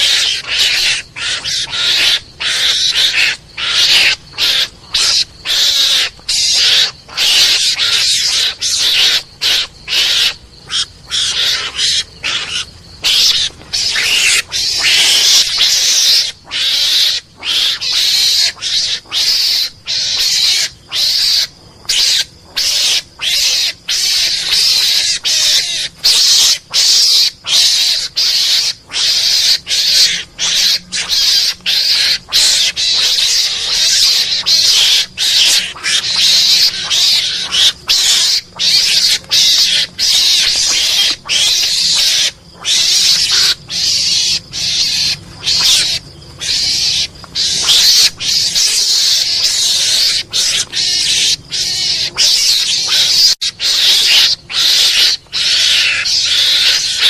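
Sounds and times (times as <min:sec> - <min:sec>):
high harsh lure call cries: 0:00.0 - 0:57.0.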